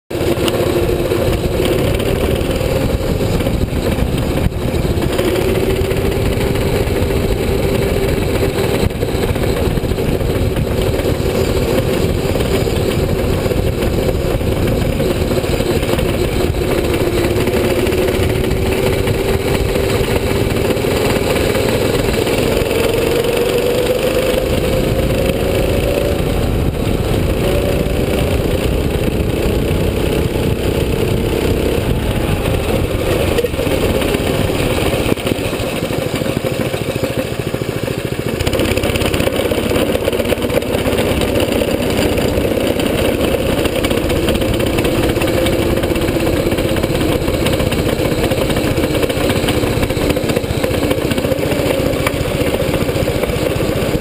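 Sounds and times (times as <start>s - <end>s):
go-kart engine running: 0.1s - 54.0s
steady rushing noise: 0.1s - 54.0s.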